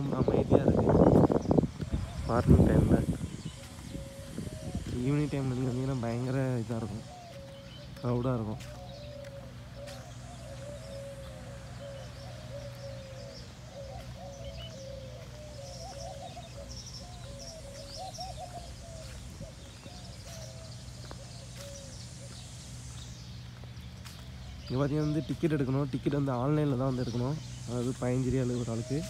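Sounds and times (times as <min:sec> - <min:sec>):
birds chirping and calling: 0:00.0 - 0:29.0.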